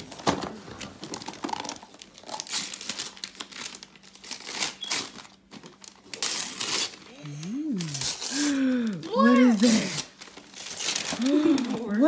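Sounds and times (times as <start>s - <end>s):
wrapping paper tearing and crumpling: 1.0s - 12.0s.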